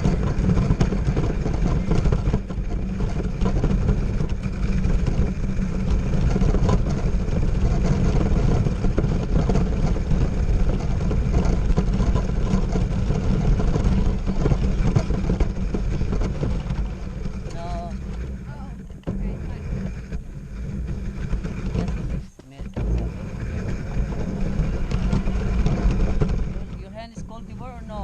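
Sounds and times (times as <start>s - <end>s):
toy monster truck rumbling: 0.0s - 28.0s.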